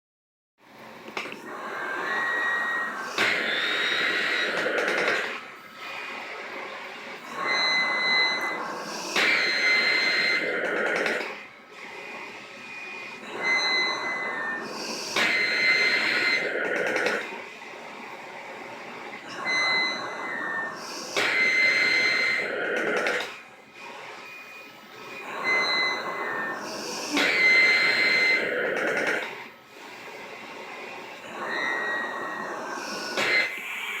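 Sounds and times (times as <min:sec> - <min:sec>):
machine blower whining: 0:00.8 - 0:34.0.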